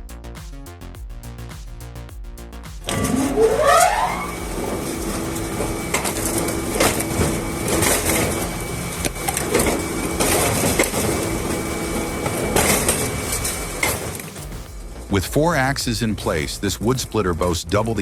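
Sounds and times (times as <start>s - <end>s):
machine humming: 2.8s - 18.0s.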